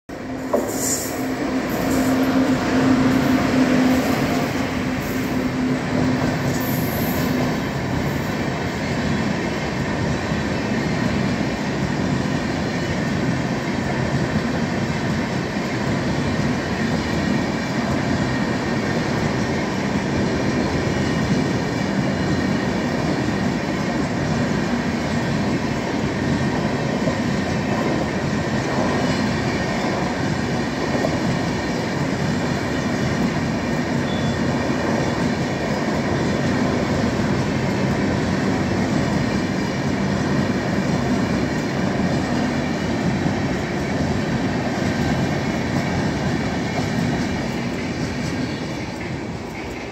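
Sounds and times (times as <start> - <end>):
train wheels rumbling on rails: 0.1 - 49.9.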